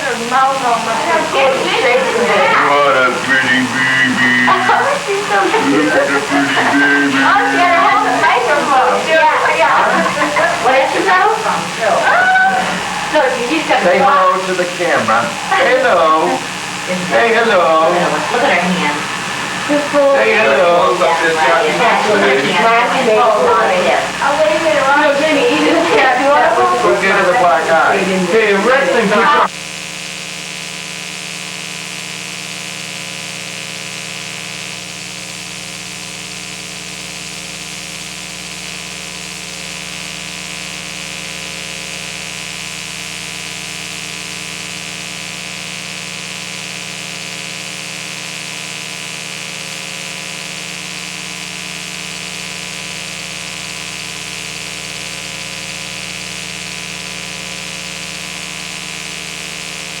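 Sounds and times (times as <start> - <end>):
machine hum with hiss: 0.0 - 60.0.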